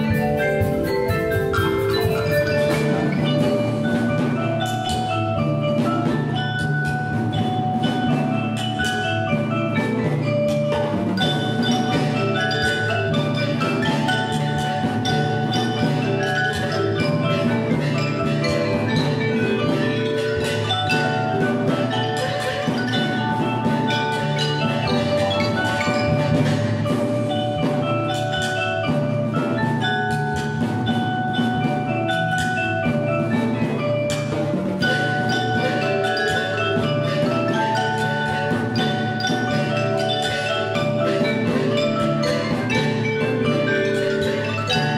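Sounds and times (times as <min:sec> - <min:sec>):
drums: 0:00.0 - 0:44.9
marimbas and xylophones: 0:00.0 - 0:44.9
tubular bells: 0:00.0 - 0:44.9.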